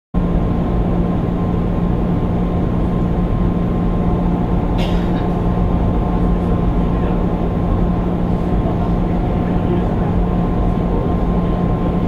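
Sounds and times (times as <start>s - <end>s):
train mechanical hum: 0.2s - 12.0s.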